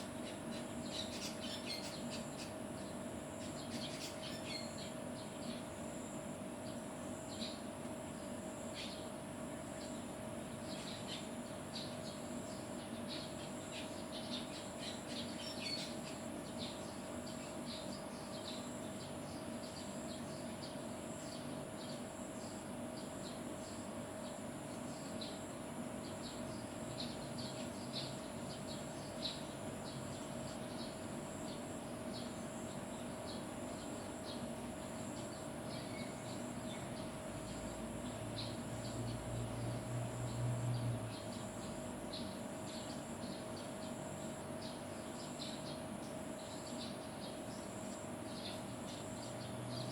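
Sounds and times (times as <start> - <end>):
small birds chirping: 0.0 - 49.9
steady low hum: 0.0 - 49.9.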